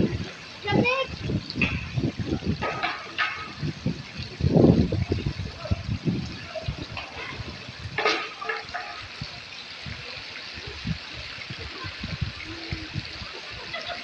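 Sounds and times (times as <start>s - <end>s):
running and spraying water: 0.0s - 14.0s.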